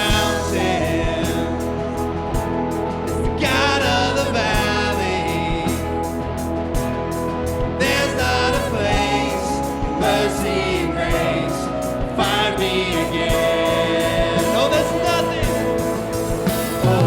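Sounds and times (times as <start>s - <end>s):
band playing worship music: 0.0s - 17.0s
voices singing together: 0.0s - 17.0s.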